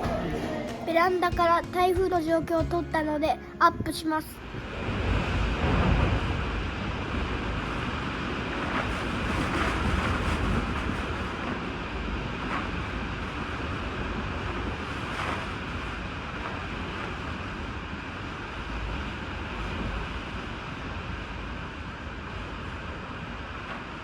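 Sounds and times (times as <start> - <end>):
strong wind blowing: 3.7 - 24.0
wind buffeting microphone: 3.8 - 24.0.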